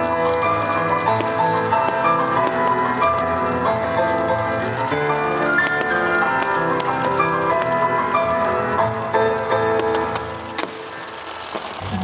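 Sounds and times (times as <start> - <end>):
music over loudspeakers: 0.0 - 11.0
firework bangs: 0.0 - 12.0.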